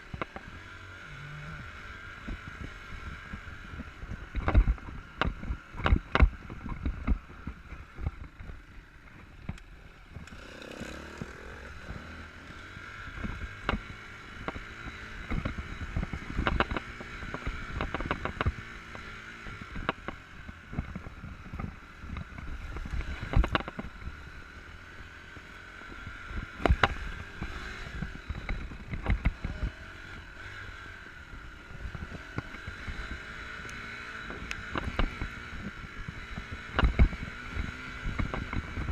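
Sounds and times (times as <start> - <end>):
dirt bike engine running: 0.0 - 38.9
knocks and thumps over rough ground: 2.2 - 24.2, 26.1 - 38.9.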